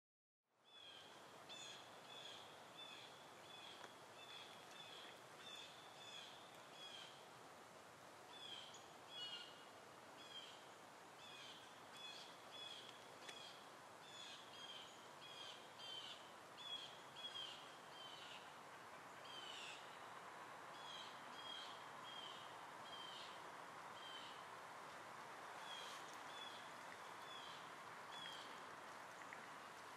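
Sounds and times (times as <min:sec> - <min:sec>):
low background hiss: 0:00.5 - 0:29.9.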